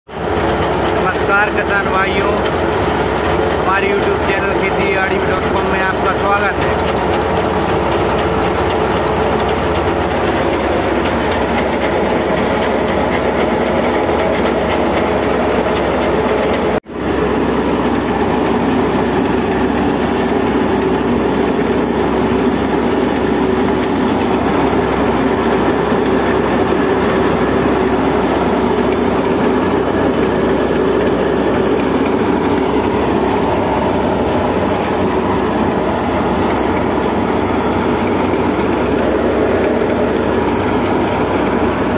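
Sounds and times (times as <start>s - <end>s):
thresher rattle and drone: 0.2s - 41.9s.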